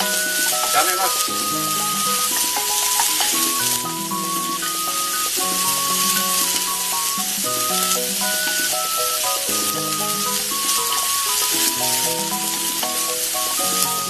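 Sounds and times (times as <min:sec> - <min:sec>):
light background music: 0:00.0 - 0:14.0.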